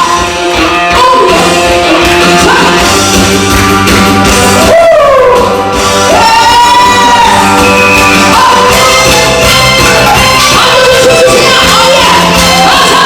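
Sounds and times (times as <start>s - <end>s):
band with steady beat: 0.0s - 13.0s.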